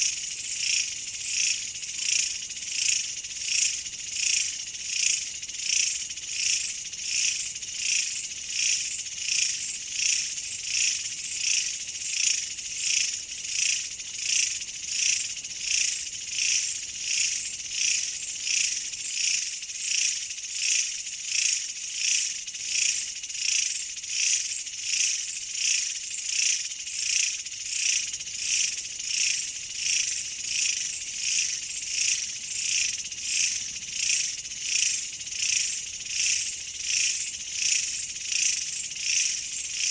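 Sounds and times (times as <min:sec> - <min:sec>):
insect buzzing trill: 0:00.0 - 0:39.9.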